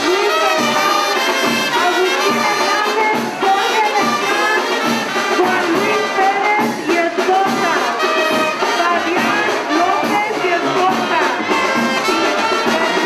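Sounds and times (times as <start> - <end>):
brass dance music: 0.0 - 13.0.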